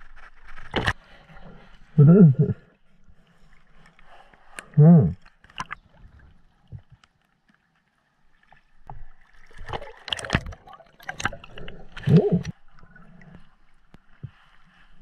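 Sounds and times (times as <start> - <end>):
water splashing and gurgling: 0.0 - 15.0.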